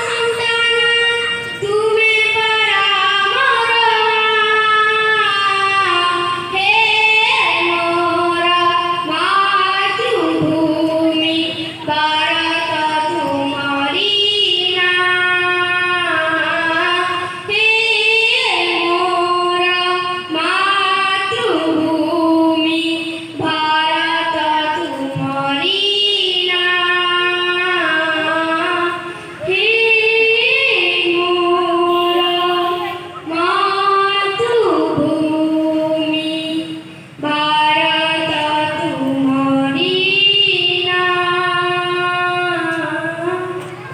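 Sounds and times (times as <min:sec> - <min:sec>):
child singing into microphone: 0:00.0 - 0:43.9.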